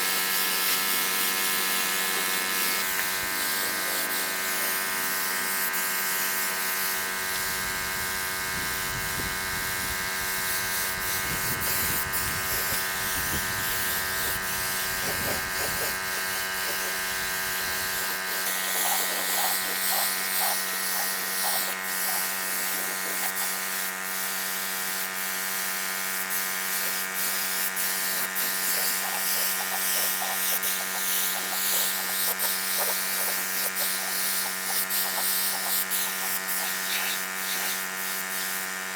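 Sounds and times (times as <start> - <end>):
power tool motor buzzing: 0.0 - 38.9.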